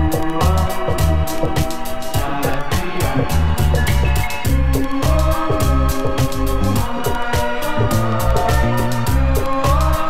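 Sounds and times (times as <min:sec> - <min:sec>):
bass: 0:00.0 - 0:10.0
drum kit steady beat: 0:00.0 - 0:10.0.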